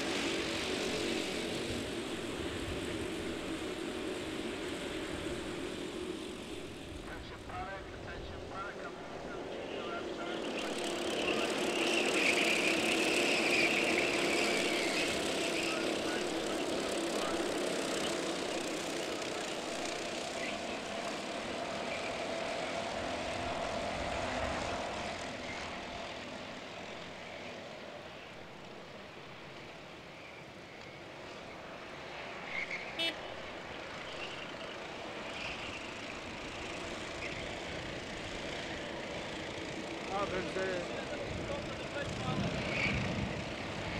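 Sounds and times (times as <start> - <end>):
kart engines droning: 0.0 - 43.9.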